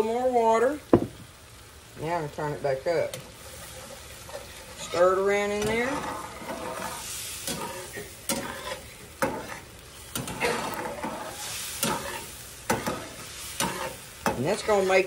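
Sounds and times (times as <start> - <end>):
low sizzle: 0.0 - 15.0.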